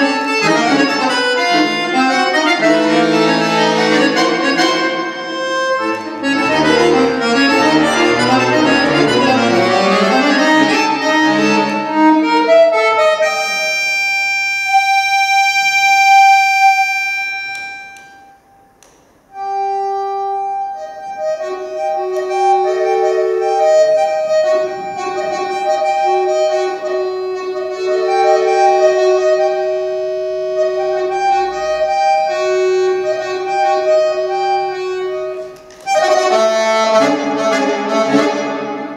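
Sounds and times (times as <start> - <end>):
solo accordion: 0.0 - 38.9.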